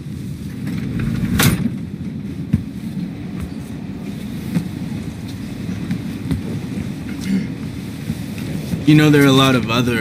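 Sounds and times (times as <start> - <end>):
train rumbling on rails: 0.0 - 10.0.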